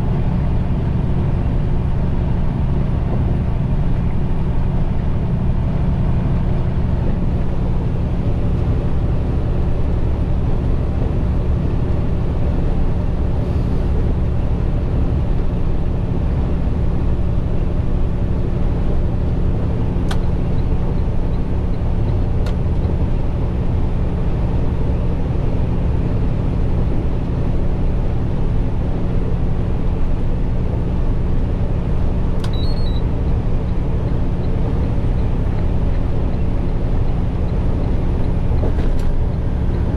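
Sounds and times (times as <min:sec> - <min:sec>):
engine hum: 0:00.0 - 0:39.9
truck road noise drone: 0:00.0 - 0:39.9.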